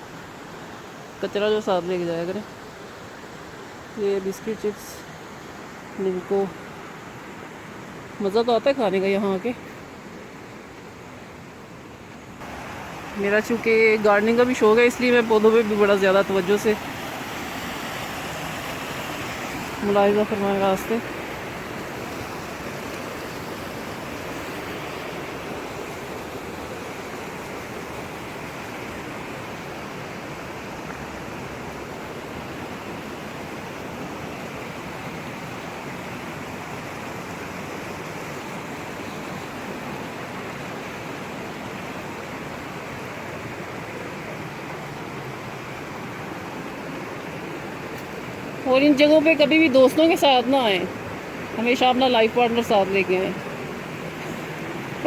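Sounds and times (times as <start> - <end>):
rushing flowing water: 0.0 - 55.0.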